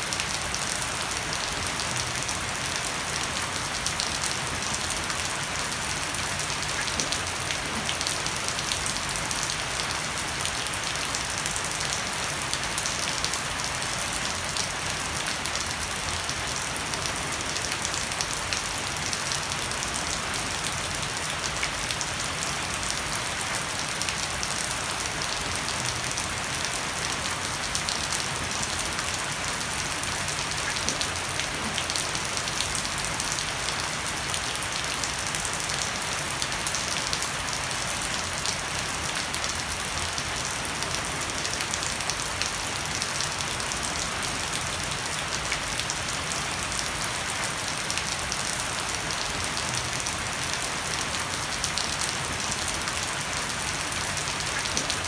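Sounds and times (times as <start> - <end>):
heavy rain on deck and foliage: 0.0 - 55.0.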